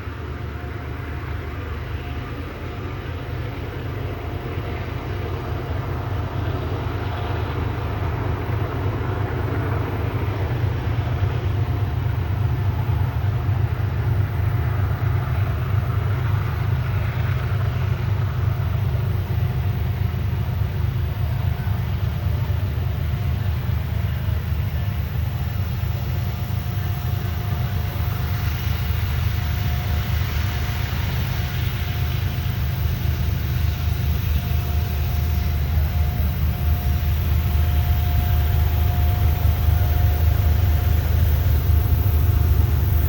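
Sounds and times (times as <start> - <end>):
diesel locomotive rumble: 0.0 - 43.0.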